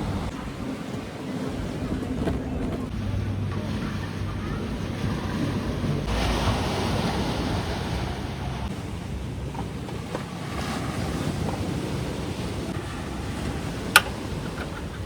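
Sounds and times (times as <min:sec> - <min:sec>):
sea surf: 0:00.0 - 0:15.0
wind on microphone: 0:00.0 - 0:15.0.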